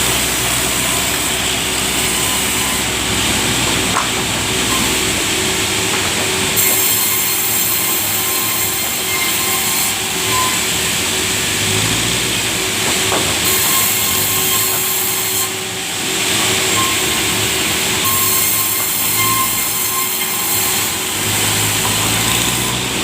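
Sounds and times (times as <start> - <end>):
sawmill saw whining: 0.0 - 23.0.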